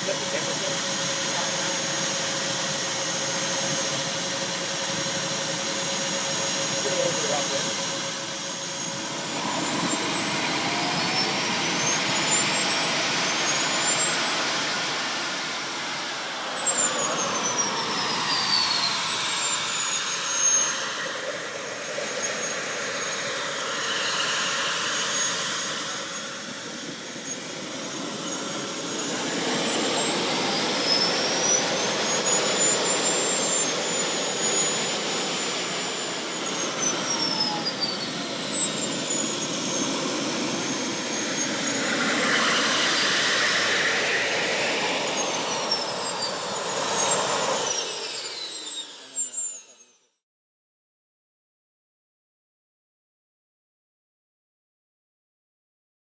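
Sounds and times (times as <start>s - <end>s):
model jet turbine engines whining: 0.0s - 49.9s.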